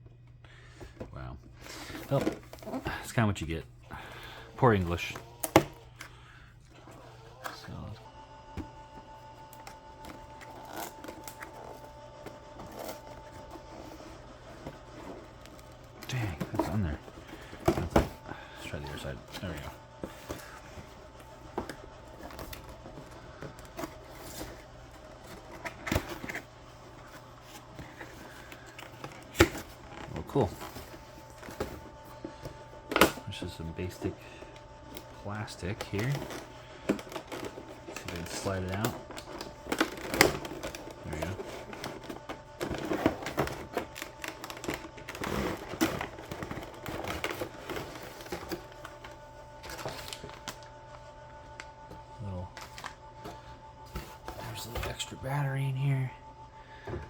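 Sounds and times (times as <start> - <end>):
faint steady hum: 0.0 - 57.0
plastic packaging clicks and crinkles: 8.6 - 54.9.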